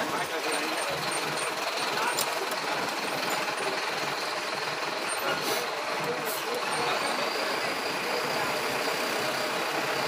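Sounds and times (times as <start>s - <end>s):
road noise: 0.0s - 10.0s
vehicle engine running: 0.0s - 10.0s.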